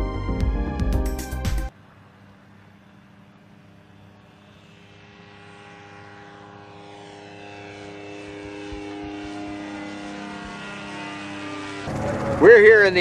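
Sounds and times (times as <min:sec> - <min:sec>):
propeller aircraft engine droning: 0:01.6 - 0:13.0.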